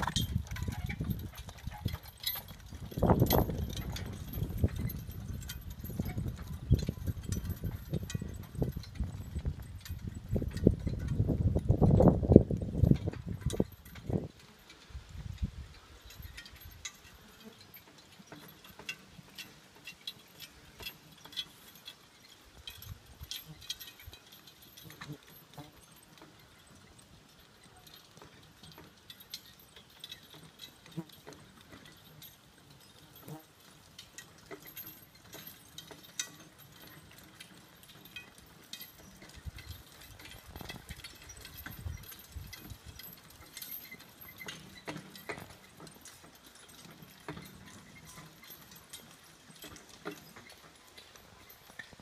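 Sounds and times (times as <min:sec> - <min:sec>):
harness hardware clinking and jingling: 0:00.0 - 0:52.0
horse hoofbeats: 0:00.0 - 0:52.0.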